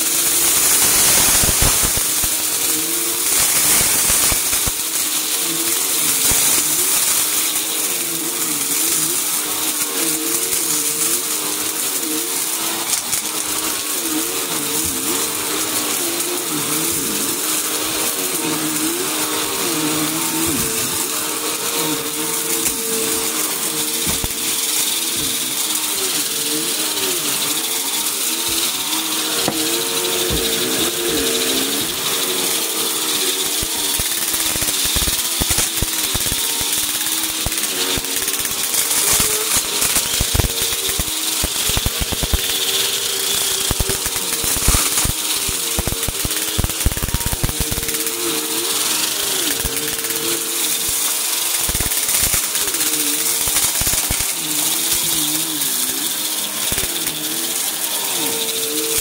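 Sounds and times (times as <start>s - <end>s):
debris rattling in vacuum: 0.0s - 59.0s
vacuum cleaner running on carpet: 0.0s - 59.0s.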